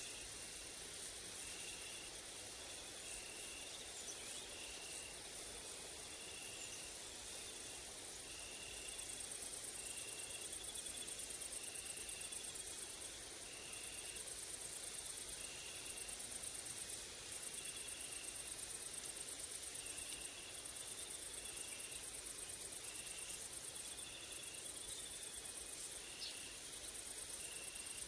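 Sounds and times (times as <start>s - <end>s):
cricket chirping: 0.0s - 28.0s
woodland ambience hiss: 0.0s - 28.0s.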